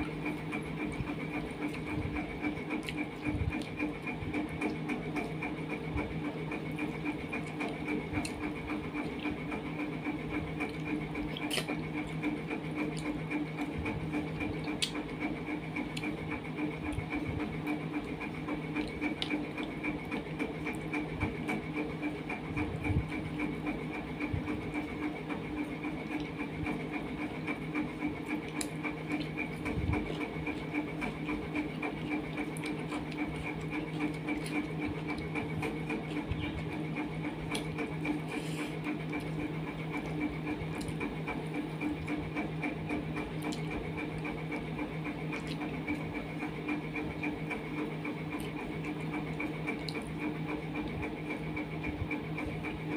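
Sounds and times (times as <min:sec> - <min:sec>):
fluttering machine hum: 0:00.0 - 0:52.9.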